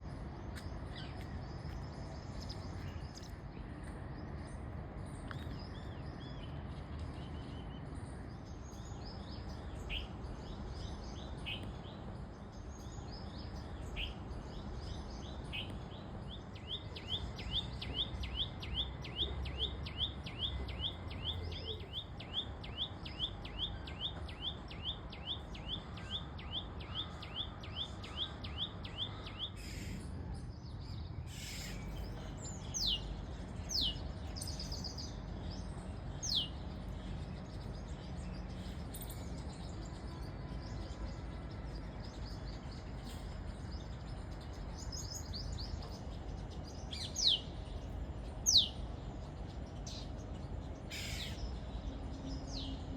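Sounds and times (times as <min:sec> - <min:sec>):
birds chirping: 0:00.1 - 0:52.9.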